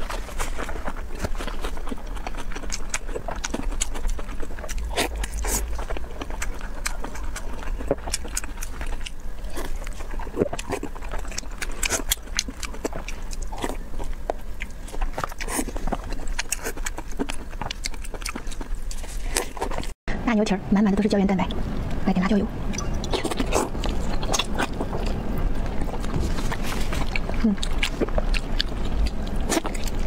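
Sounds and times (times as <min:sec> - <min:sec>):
wet chewing and lip-smacking: 0:00.0 - 0:20.0, 0:22.7 - 0:30.0.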